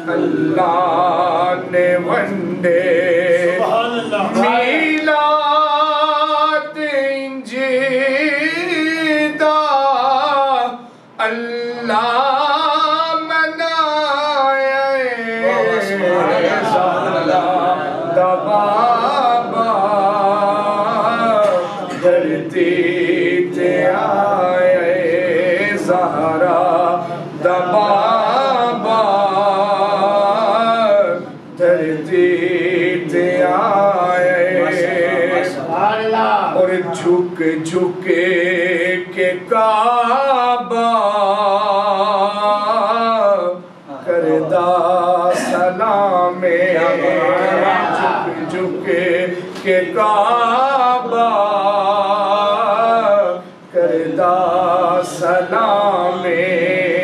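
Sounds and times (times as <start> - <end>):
man chanting devotional poem: 0.0 - 57.0
man singing into a microphone: 4.4 - 16.6, 17.7 - 35.6, 36.6 - 57.0.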